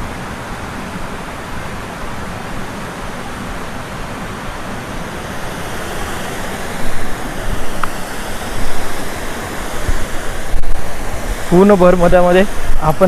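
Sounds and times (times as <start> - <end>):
river water rushing at a dam: 0.0 - 13.0.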